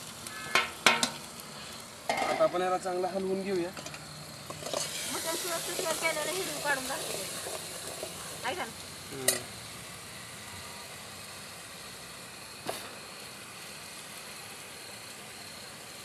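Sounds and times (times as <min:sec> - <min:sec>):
spices frying in hot oil: 0:00.0 - 0:16.0.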